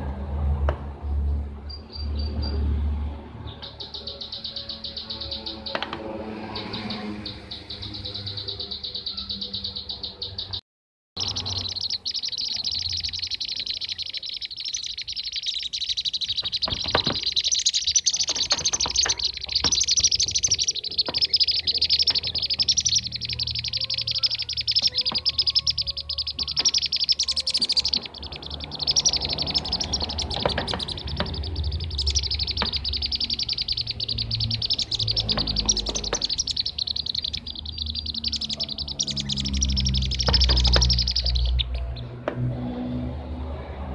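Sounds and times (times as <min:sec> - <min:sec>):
birds chattering calls: 0:01.6 - 0:10.6, 0:11.2 - 0:42.2.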